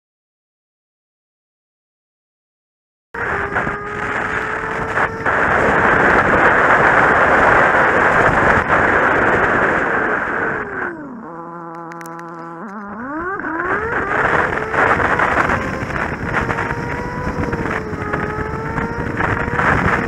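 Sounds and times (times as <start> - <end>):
motorcycle engine: 3.2 - 20.0
wind noise on microphone: 3.2 - 20.0.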